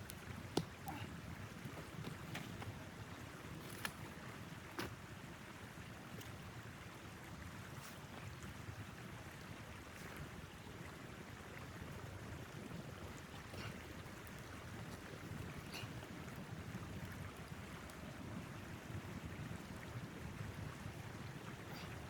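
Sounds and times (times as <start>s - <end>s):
wind rushing against a tent: 0.0s - 22.0s.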